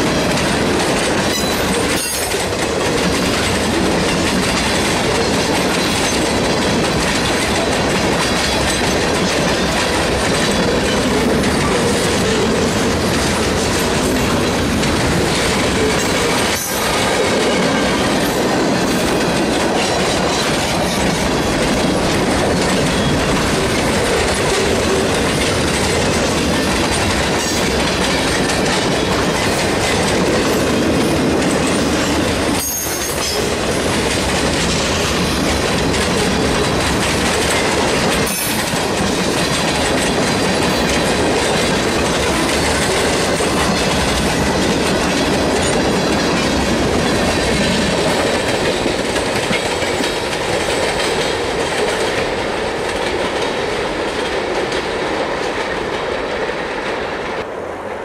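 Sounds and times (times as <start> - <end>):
train wheels clattering on rails: 0.0 - 57.5.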